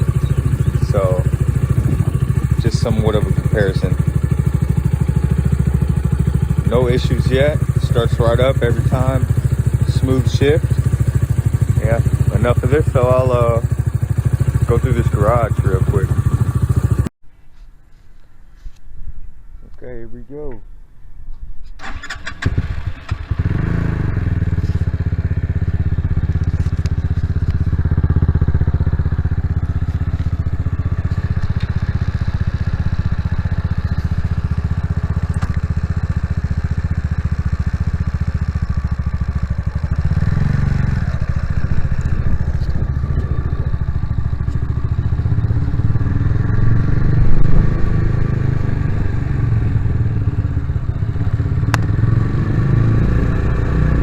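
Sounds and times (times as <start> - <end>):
motorcycle engine revving: 0.0 - 17.1, 21.8 - 54.0.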